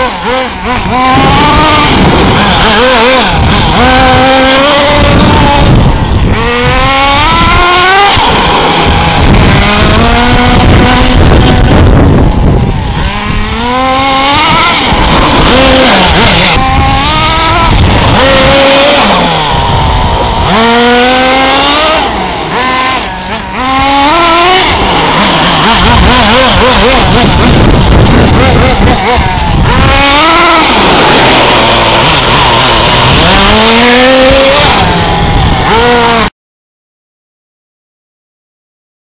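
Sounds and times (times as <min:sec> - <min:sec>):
loud rushing noise: 0:00.0 - 0:36.3
rc car motor whining: 0:00.0 - 0:36.3.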